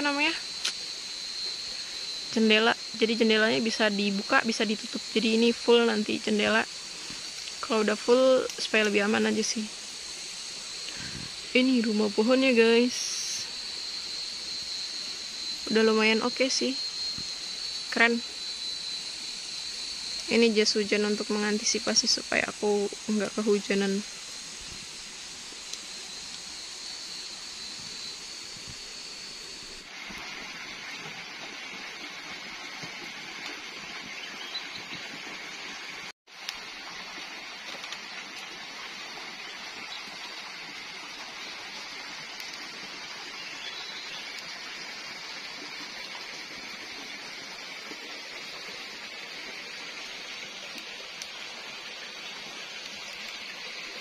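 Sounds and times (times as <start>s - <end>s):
even hiss: 0.0s - 54.0s
high insect drone: 0.0s - 54.0s.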